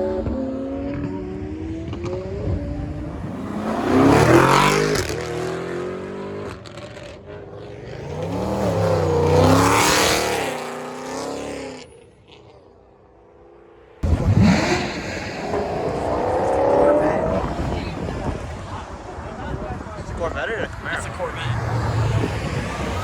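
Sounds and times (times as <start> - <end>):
cars revving past: 0.0 - 12.7, 14.0 - 23.0.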